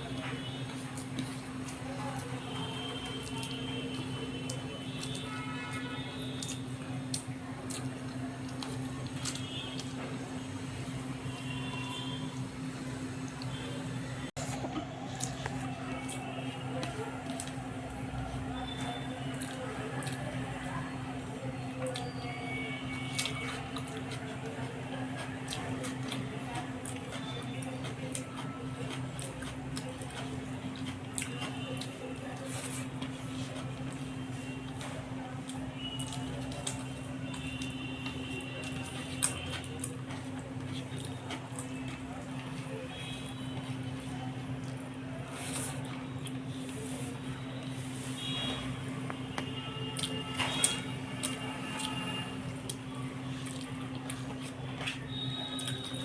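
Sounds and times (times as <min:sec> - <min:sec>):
wet squishy eating sounds: 0:00.0 - 0:56.0.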